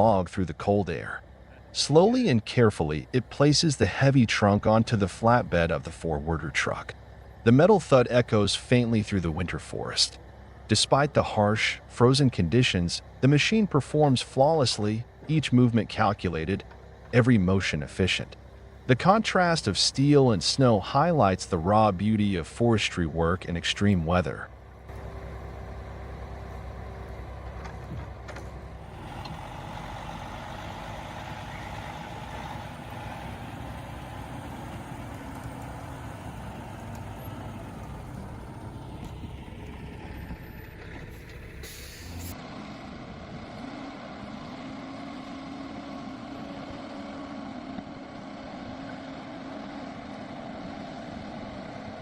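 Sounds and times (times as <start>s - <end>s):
heavy machine engine running: 0.0s - 52.0s.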